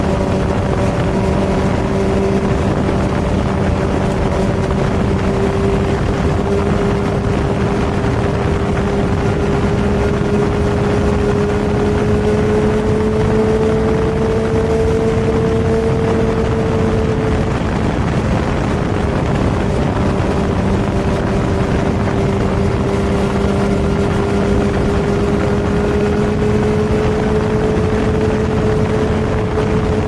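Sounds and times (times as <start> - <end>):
motorcycle engine cruising: 0.0 - 30.0
wind and road noise: 0.0 - 30.0.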